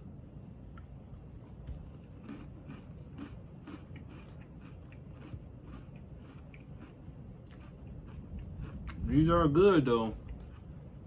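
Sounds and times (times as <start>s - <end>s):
low background rumble: 0.0s - 11.0s
person chewing crunchy cookie: 0.6s - 11.0s.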